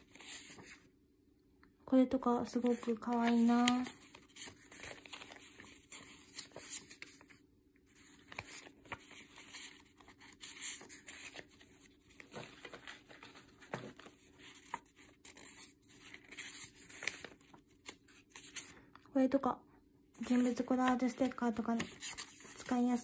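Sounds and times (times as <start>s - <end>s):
paper sheets rustling: 0.0s - 0.8s, 2.5s - 18.8s, 20.2s - 23.0s.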